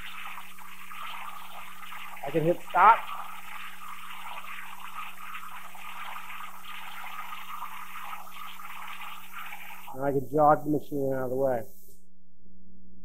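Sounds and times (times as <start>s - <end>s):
hiss of churning air and water: 0.0s - 10.7s.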